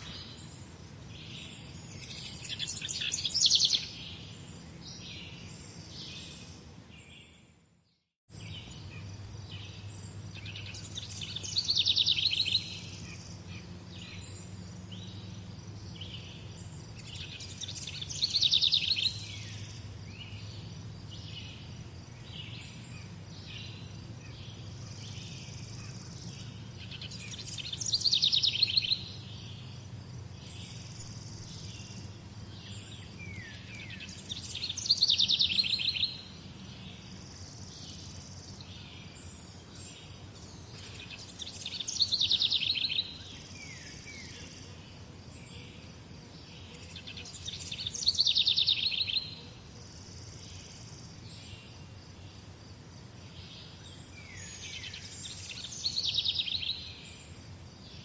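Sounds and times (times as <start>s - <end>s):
birds chirping: 0.0s - 7.5s, 8.3s - 52.5s
trilled bird song: 0.0s - 52.5s, 53.1s - 58.0s.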